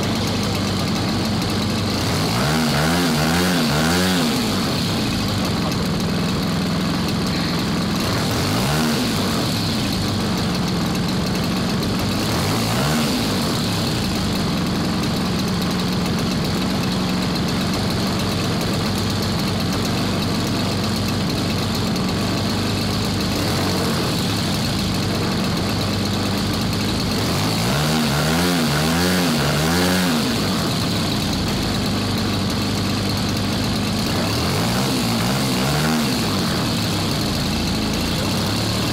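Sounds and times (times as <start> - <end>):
model aircraft engine buzzing: 0.0 - 38.9.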